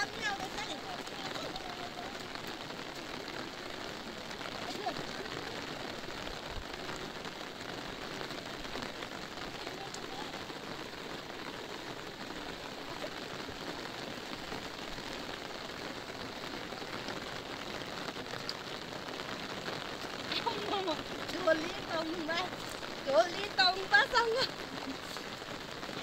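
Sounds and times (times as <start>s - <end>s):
rain pattering on umbrella: 0.0s - 26.0s.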